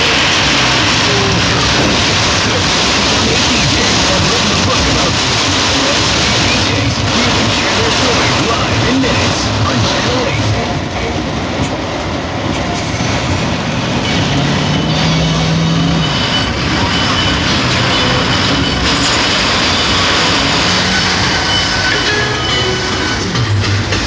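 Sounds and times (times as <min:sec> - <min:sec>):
loud steady rushing noise: 0:00.0 - 0:24.0.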